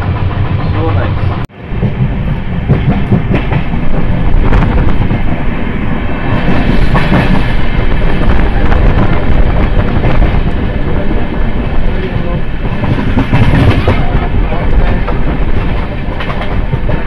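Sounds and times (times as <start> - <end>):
rush of wind: 0.0 - 17.0.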